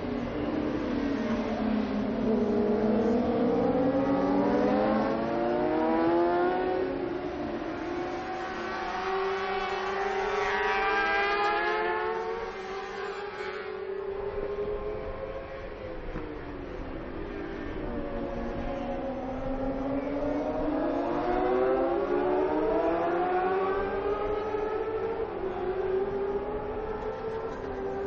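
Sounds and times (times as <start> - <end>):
racing motorcycles accelerating: 0.0 - 28.0.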